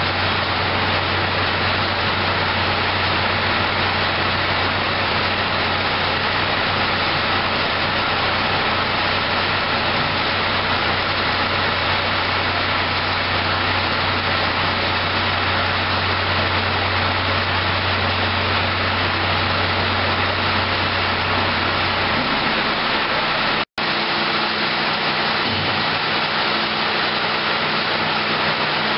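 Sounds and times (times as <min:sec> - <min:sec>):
loud rushing machinery noise: 0:00.0 - 0:28.9.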